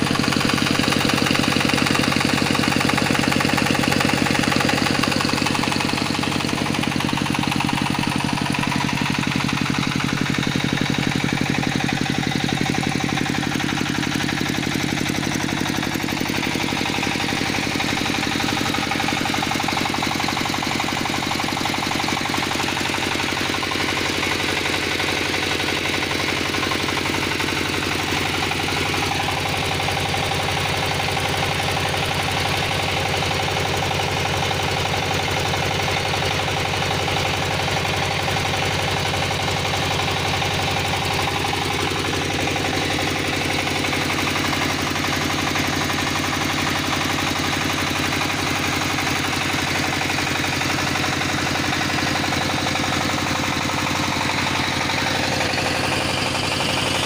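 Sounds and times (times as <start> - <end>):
diesel generator engine knocking: 0.0 - 57.0.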